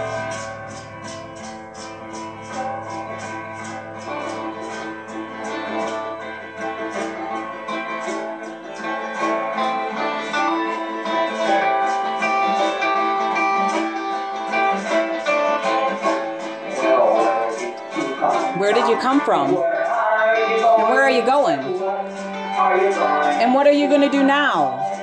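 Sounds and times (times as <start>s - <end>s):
acoustic guitars strumming: 0.0s - 25.0s.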